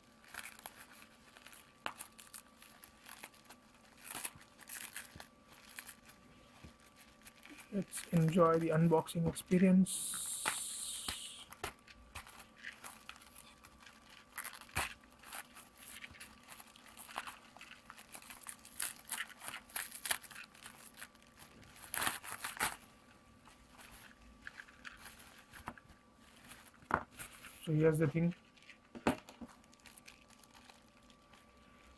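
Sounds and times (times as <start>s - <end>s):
plastic packaging crinkling and tearing: 0.0s - 31.9s.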